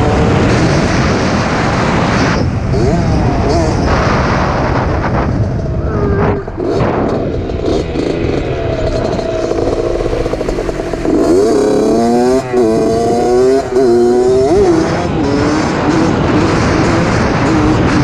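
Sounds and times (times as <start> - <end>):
two-stroke dirt bike engine: 0.0 - 5.4, 6.0 - 18.0.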